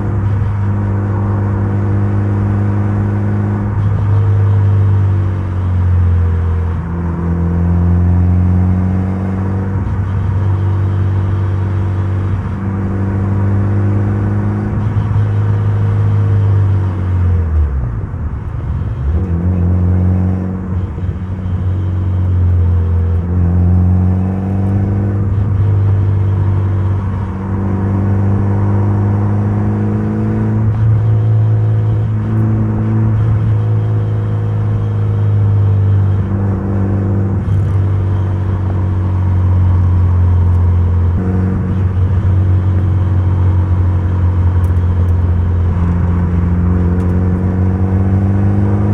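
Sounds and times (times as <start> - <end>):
car engine under load: 0.0 - 48.9.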